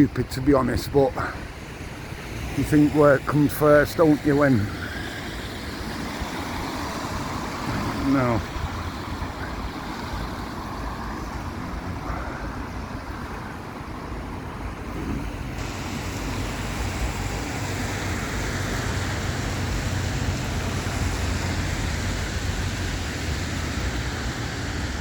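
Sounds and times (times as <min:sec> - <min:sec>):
engine rumble: 0:00.0 - 0:25.0
tyres hissing on wet road: 0:00.3 - 0:25.0.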